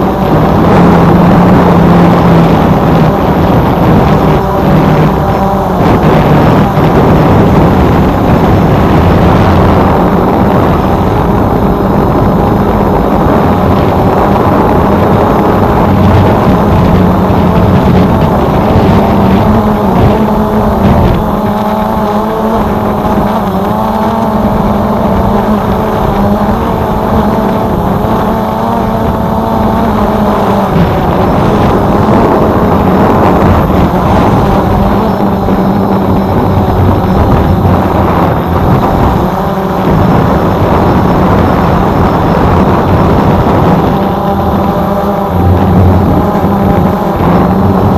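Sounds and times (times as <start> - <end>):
drone motors humming and whining: 0.0 - 47.9.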